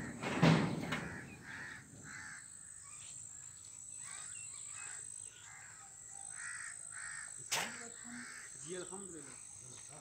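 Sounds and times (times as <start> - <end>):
crows cawing: 0.0 - 3.0, 4.0 - 9.3.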